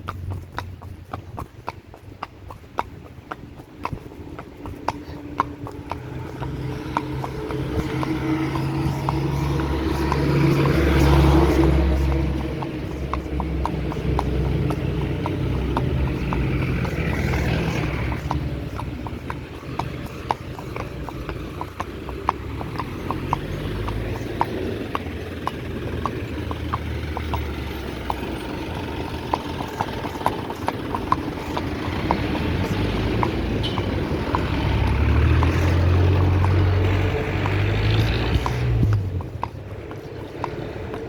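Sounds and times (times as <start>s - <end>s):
horse hooves clip-clopping: 0.0s - 41.0s.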